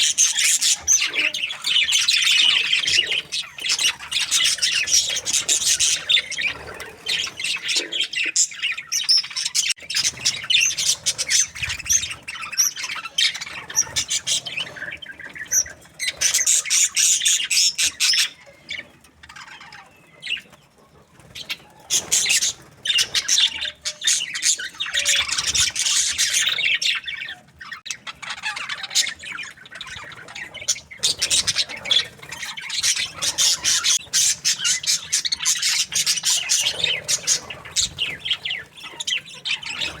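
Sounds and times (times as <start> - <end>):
budgerigars chattering and chirping: 0.0 - 40.0.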